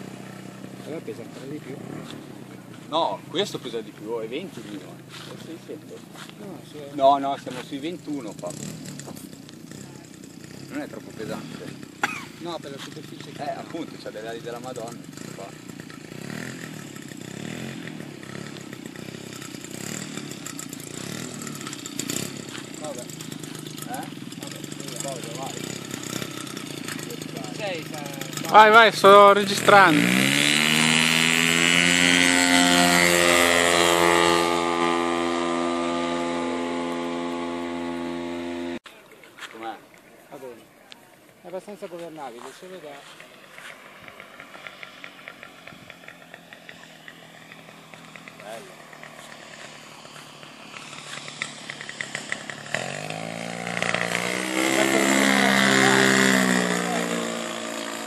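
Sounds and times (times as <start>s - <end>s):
model plane engine buzzing: 0.0s - 5.8s, 6.4s - 38.8s, 42.7s - 58.0s.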